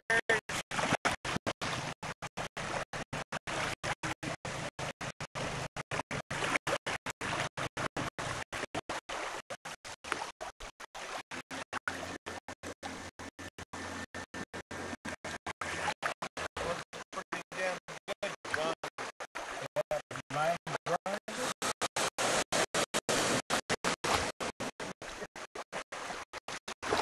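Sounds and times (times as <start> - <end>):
small waves on water: 0.0 - 27.0.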